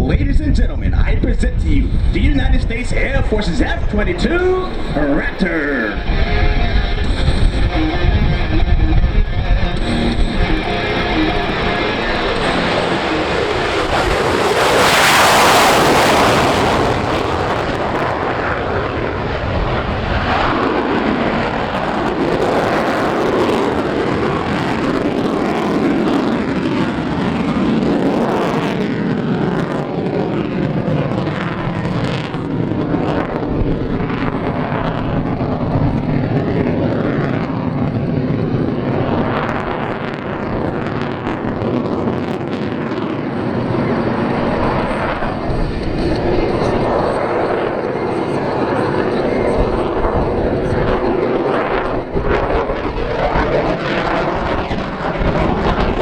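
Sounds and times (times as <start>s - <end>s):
jet engine rumble: 0.0s - 56.0s.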